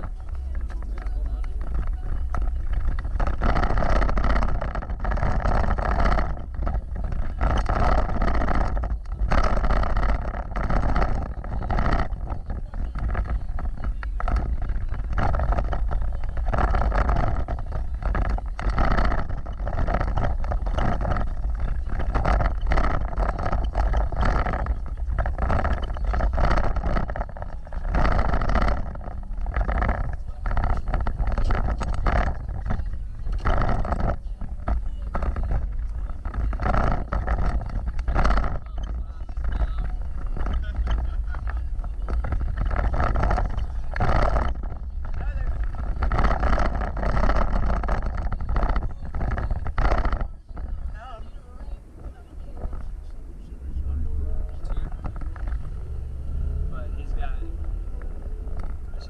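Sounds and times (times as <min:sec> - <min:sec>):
vehicle driving off-road: 0:00.0 - 0:59.0
vehicle jolts: 0:00.0 - 0:59.0.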